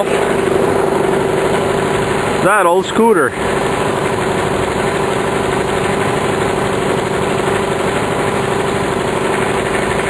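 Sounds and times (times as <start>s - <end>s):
lawn mower engine running: 0.0s - 10.0s.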